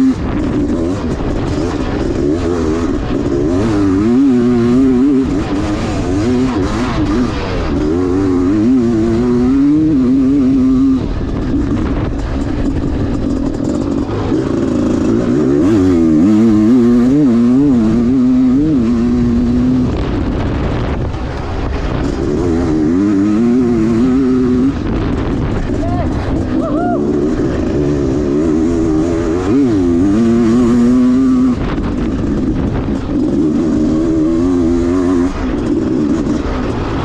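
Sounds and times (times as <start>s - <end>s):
two-stroke motorcycle engine revving: 0.0s - 37.0s.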